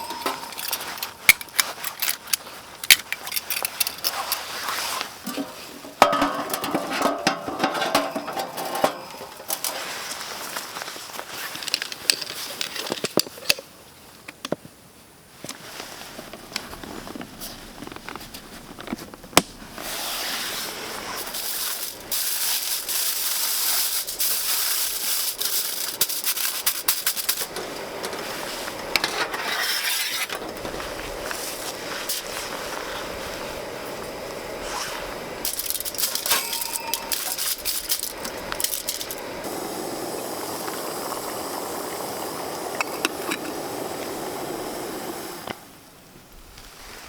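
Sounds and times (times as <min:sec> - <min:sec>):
rustling hiss: 0:00.0 - 0:47.0.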